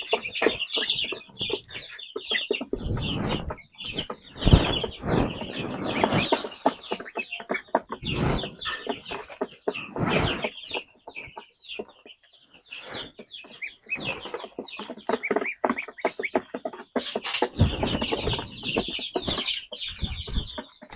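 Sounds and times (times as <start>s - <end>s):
chickens clucking: 0.0s - 20.9s.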